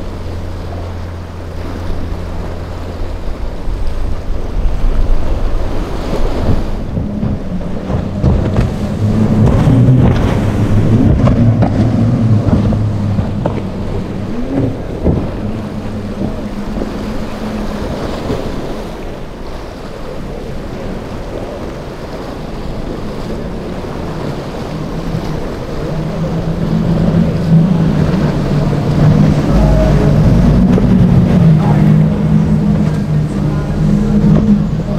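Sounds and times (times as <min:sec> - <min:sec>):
outboard engines running: 0:00.0 - 0:34.9
waves: 0:00.0 - 0:34.9
wind gusting on microphone: 0:00.0 - 0:34.9.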